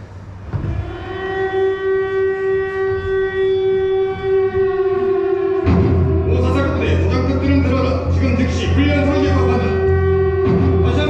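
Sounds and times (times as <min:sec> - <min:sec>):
buzzy alarm tone: 0:00.6 - 0:11.0.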